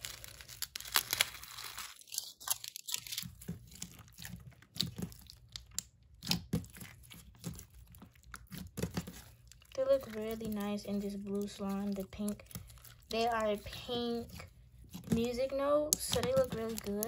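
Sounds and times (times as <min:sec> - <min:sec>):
plastic bag crinkling: 0:00.0 - 0:15.3
slime clicking and crackling: 0:00.0 - 0:17.0.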